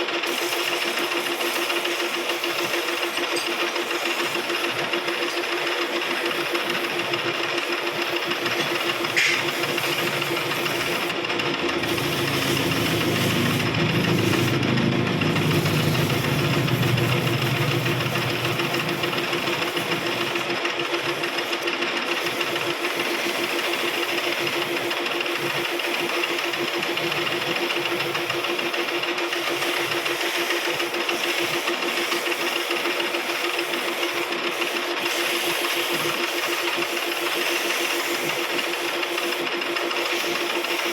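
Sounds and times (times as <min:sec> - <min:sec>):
lathe humming: 0:00.0 - 0:40.9
cutting tool scraping hiss: 0:00.1 - 0:40.9.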